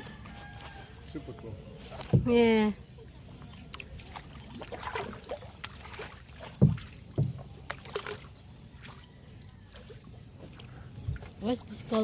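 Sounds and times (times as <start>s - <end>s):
paddles splashing in water: 0.5s - 12.0s.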